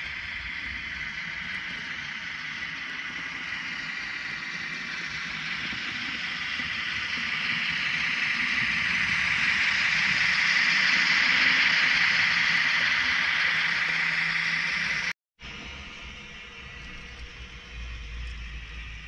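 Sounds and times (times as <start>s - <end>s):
model vehicle running on track: 0.0s - 19.0s.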